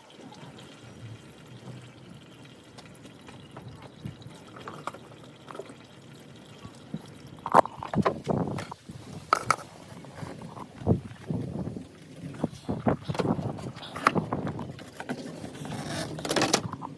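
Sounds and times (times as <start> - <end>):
oil trickling into a pan: 0.0 - 15.9.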